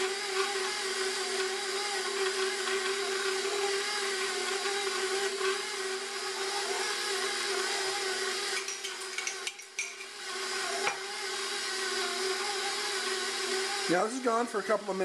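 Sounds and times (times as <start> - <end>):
stand mixer whirring: 0.0 - 15.0.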